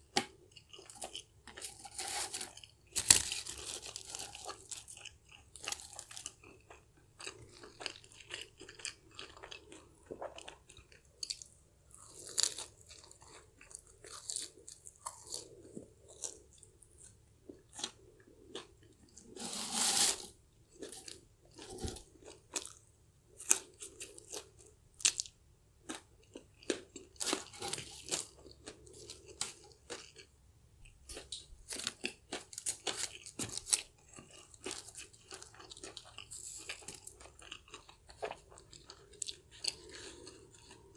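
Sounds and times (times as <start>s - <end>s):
crunching and chewing fried food: 0.0s - 40.9s.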